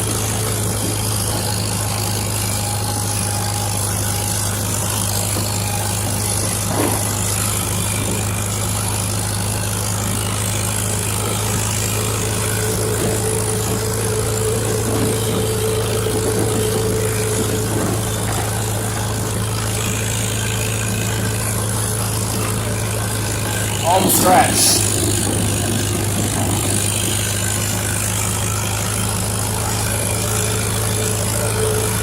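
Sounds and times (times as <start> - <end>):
faint high whine: 0.0 - 32.0
tractor engine running: 0.0 - 32.0.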